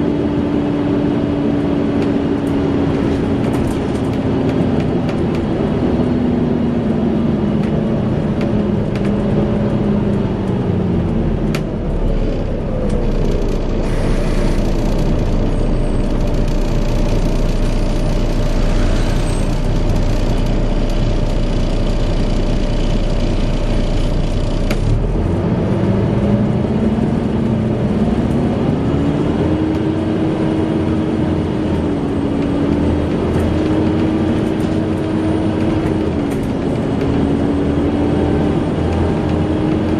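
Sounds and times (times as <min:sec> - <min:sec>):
bus cooling fan whine: 0:00.0 - 0:39.9
bus engine idling hum: 0:00.0 - 0:39.9.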